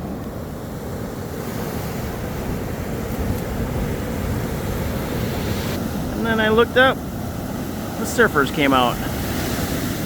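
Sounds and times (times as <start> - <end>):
wind buffeting microphone: 0.0 - 8.1
surf breaking on beach: 0.0 - 10.0.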